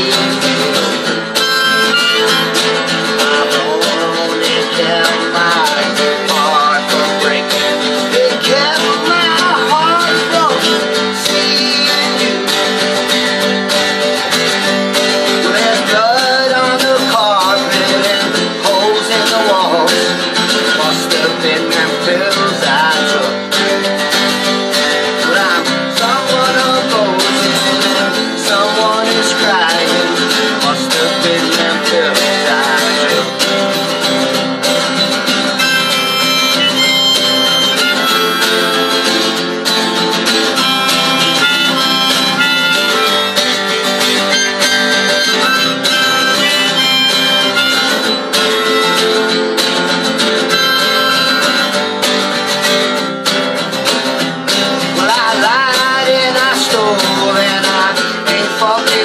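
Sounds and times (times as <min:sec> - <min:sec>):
harmonica: 0:00.0 - 0:53.2
strummed acoustic guitars: 0:00.0 - 0:59.0.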